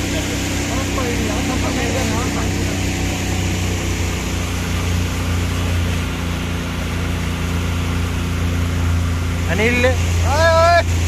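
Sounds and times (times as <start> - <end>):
boat motor humming: 0.0 - 11.0
water and wind rushing: 0.0 - 11.0.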